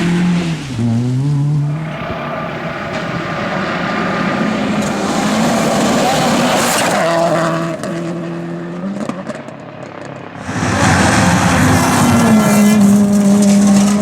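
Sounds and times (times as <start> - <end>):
rally car engines revving: 0.0 - 14.0.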